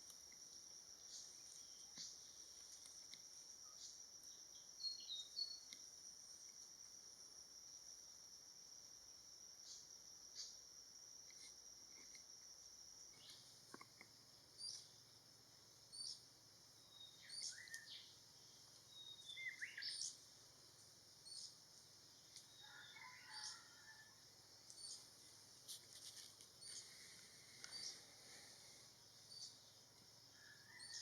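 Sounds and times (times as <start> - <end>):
high insect whine: 0.0 - 31.0
faint birdsong chirps: 0.3 - 6.6, 11.9 - 31.0.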